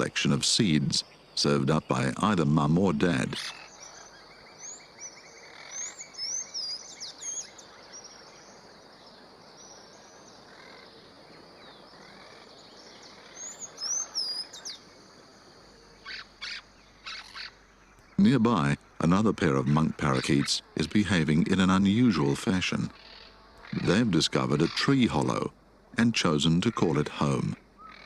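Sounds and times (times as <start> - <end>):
birds chirping: 0.0 - 28.0
harsh bird calls: 0.0 - 28.0.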